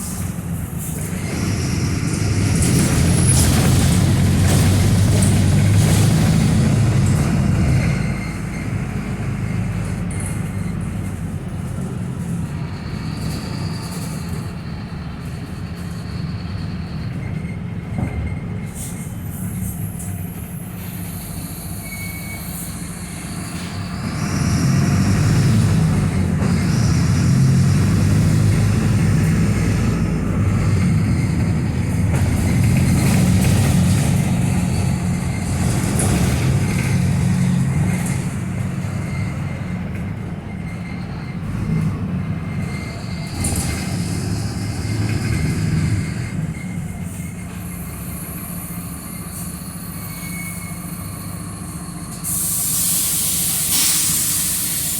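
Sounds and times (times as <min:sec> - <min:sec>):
bus diesel engine drone: 0:00.0 - 0:54.9.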